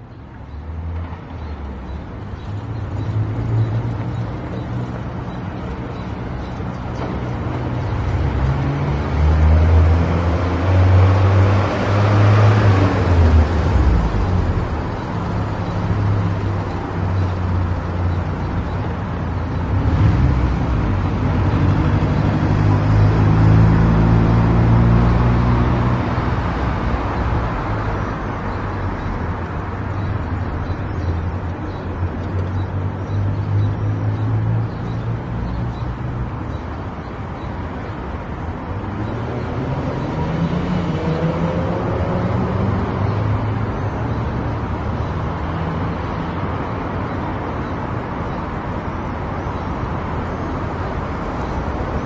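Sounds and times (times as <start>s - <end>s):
tyre and road noise: 0.0s - 52.0s.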